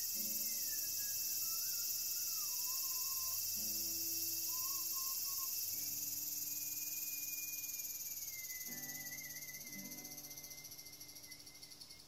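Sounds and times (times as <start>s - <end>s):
cicadas singing: 0.0s - 12.0s
faint music: 0.0s - 12.0s.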